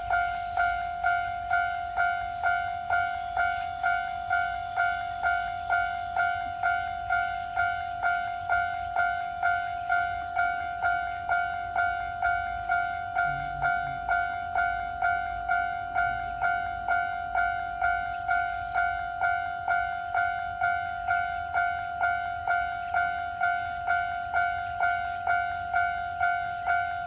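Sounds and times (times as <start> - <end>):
railroad crossing alarm clanging: 0.0 - 27.0.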